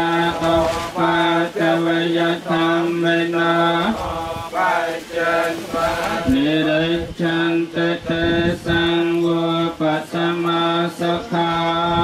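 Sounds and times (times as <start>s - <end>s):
monotone chanting voice: 0.0s - 12.0s.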